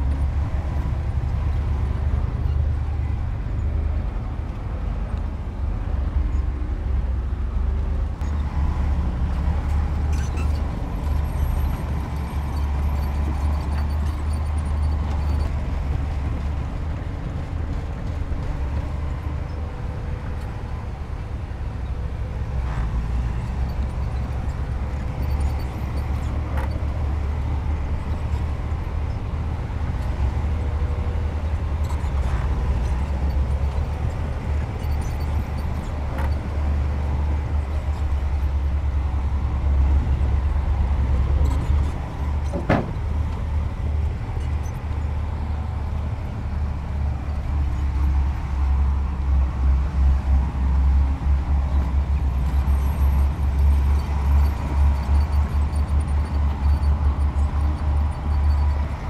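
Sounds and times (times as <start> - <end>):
heavy diesel engine rumbling: 0.0 - 59.0.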